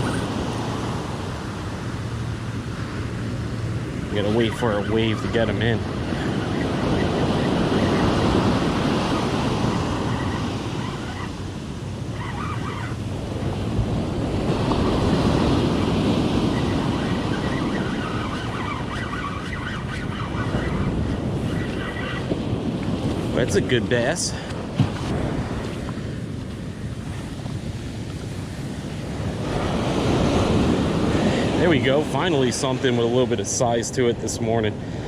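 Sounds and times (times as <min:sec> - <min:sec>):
ocean surf breaking: 0:00.0 - 0:35.0
wind buffeting microphone: 0:00.0 - 0:35.0.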